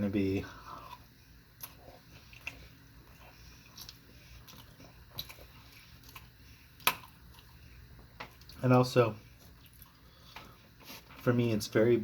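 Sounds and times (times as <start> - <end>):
person chewing food: 0.5 - 11.3.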